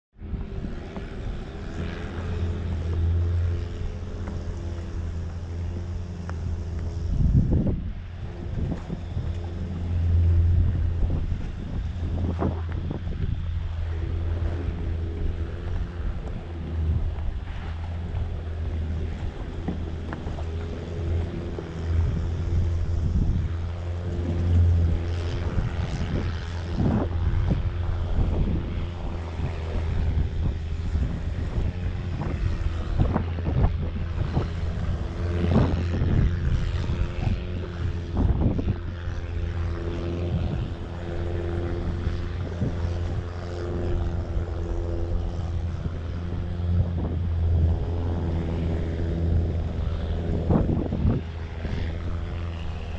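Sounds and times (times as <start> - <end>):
engine humming: 0.2 - 52.9.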